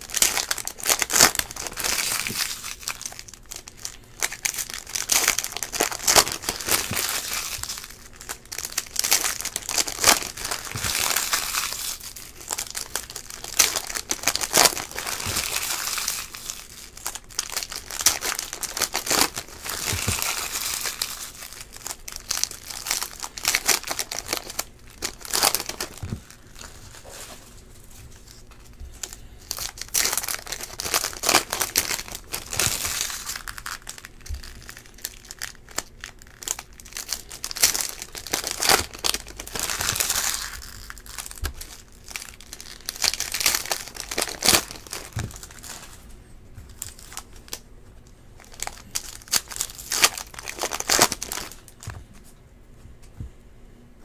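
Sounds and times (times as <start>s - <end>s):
foil wrappers crinkling and tearing: 0.0s - 52.0s.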